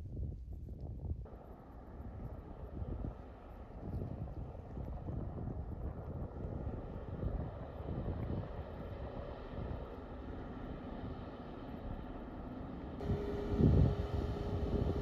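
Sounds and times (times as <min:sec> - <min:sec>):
wind noise on microphone: 0:00.0 - 0:10.0, 0:13.0 - 0:15.0
faint hum tones: 0:01.2 - 0:15.0
ferry engines rumbling: 0:01.3 - 0:15.0.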